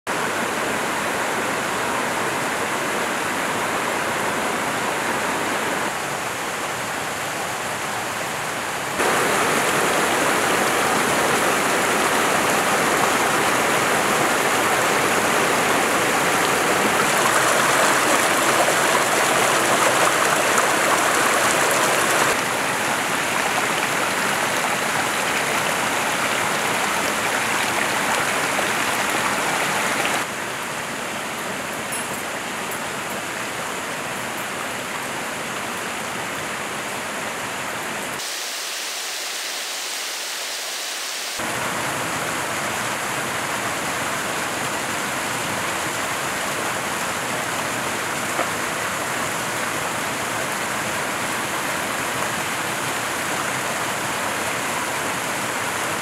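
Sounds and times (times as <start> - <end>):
stream and waterfall rushing: 0.1 - 56.0.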